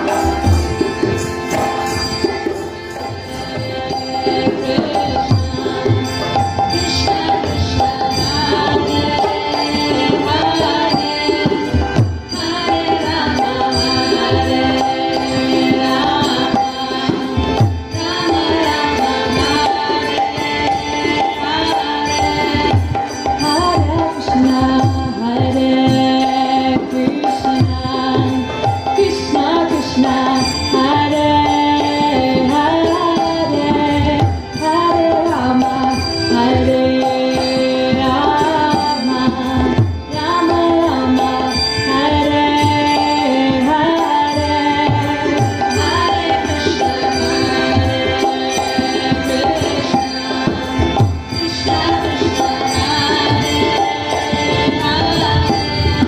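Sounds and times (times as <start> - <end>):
harmonium melody: 0.0 - 56.0.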